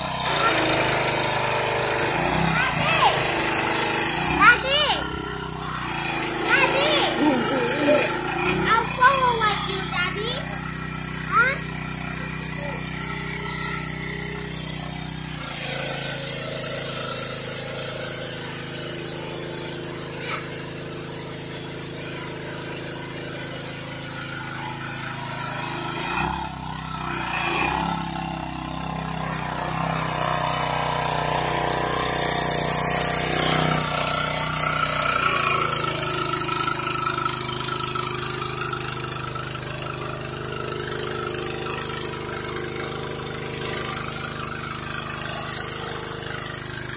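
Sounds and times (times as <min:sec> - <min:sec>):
hissing water jet: 0:00.0 - 0:26.3, 0:27.4 - 0:46.9
pressure washer motor running: 0:00.0 - 0:46.9.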